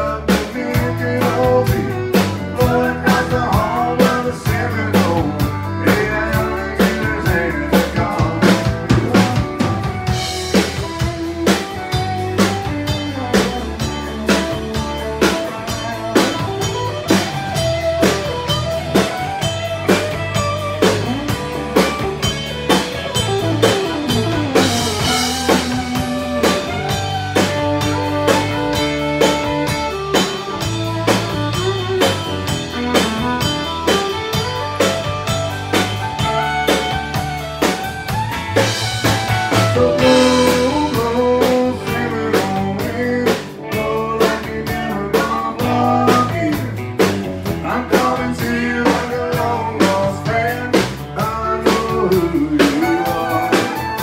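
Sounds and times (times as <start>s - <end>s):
fiddle melody: 0.0s - 44.1s
live country band: 0.0s - 54.0s.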